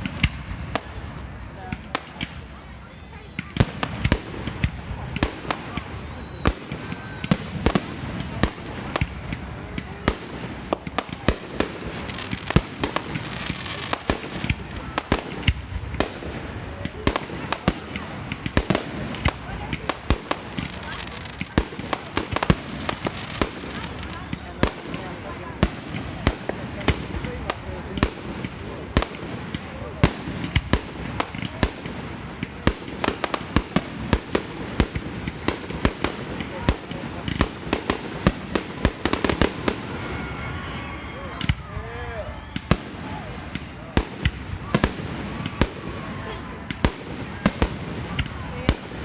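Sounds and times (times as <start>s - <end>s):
fireworks bangs: 0.0s - 49.0s.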